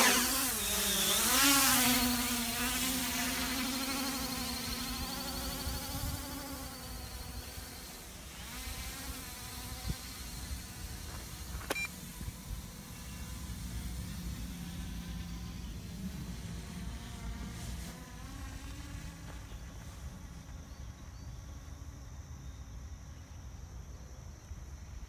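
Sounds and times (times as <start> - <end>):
drone propellers buzzing: 0.0 - 20.3.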